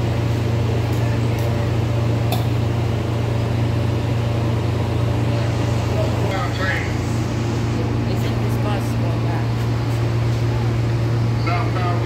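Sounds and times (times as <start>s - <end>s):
idling train hum: 0.0s - 12.0s.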